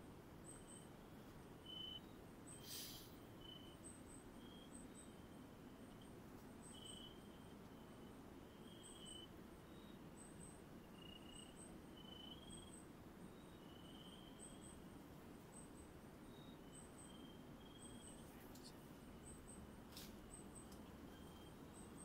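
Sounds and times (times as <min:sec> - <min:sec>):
background hiss: 0:00.0 - 0:22.0
lower insect chirps: 0:01.6 - 0:14.9, 0:15.5 - 0:22.0
high insect chirps: 0:01.6 - 0:22.0.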